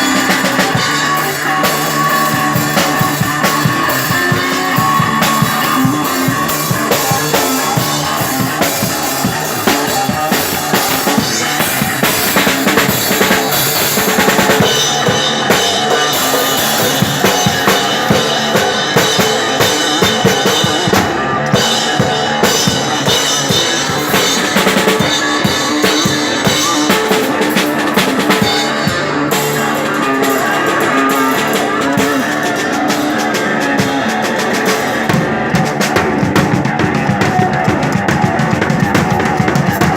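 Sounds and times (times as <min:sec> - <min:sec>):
drum kit playing: 0:00.0 - 0:39.9
sustained electric guitar: 0:00.0 - 0:39.9.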